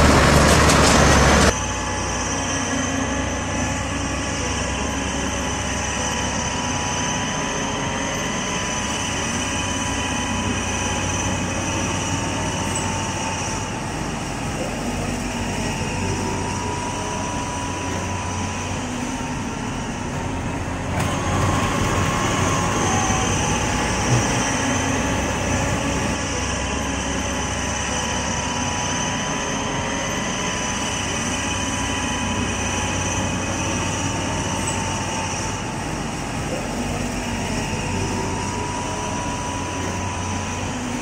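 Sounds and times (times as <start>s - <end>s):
train wagons rolling on track: 0.0s - 41.0s.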